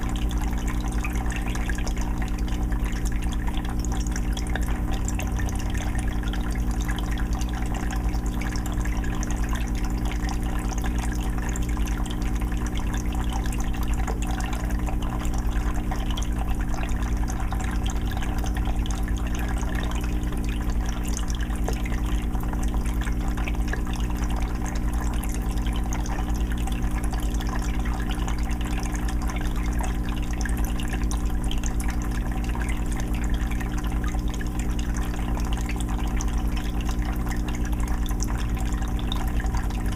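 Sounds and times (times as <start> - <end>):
low motor hum: 0.0 - 39.9
water trickling and splashing: 0.0 - 39.9.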